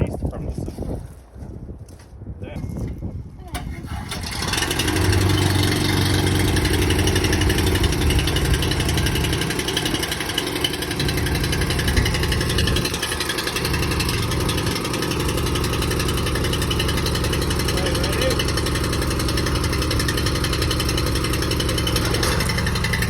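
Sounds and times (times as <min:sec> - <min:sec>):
tractor engine running: 0:03.4 - 0:23.0.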